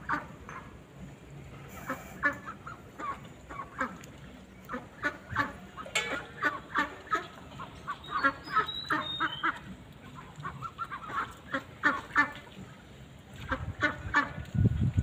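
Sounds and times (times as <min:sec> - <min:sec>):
ducks quacking: 0:01.7 - 0:14.6.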